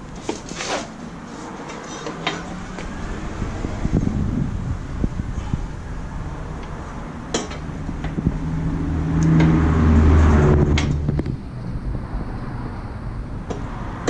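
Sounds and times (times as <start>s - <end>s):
low hum: 2.5s - 14.0s.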